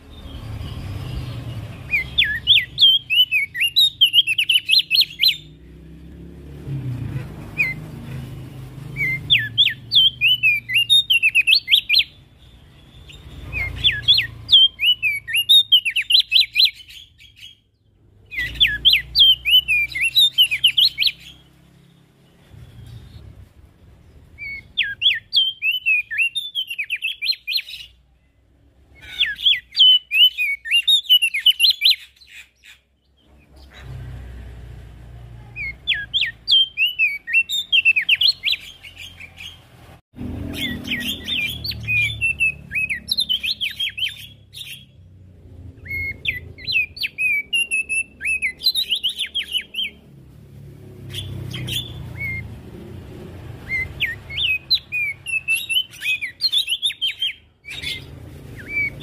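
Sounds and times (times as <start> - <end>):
bird singing sweeping chirps: 0.0 - 6.4, 7.4 - 33.9, 35.5 - 39.6, 40.2 - 50.3, 50.9 - 59.0.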